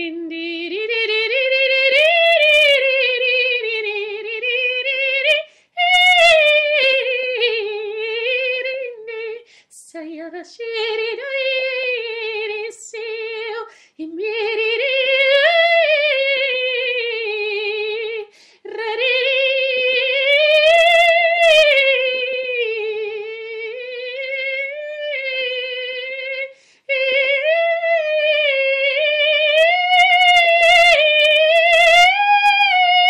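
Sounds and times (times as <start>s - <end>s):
woman singing with vibrato: 0.0s - 33.0s.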